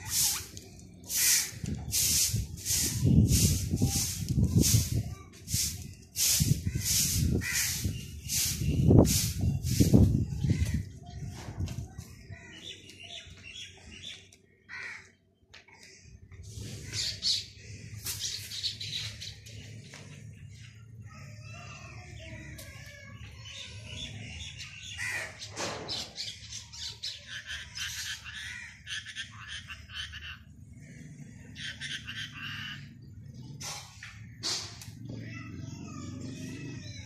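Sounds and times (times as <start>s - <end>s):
birds squawking and chirping: 0.0s - 37.0s.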